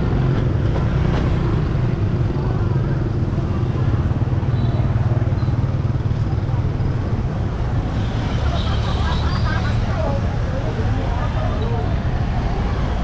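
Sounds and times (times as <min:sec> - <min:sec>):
low traffic rumble: 0:00.0 - 0:13.0
motor scooters passing: 0:00.0 - 0:13.0.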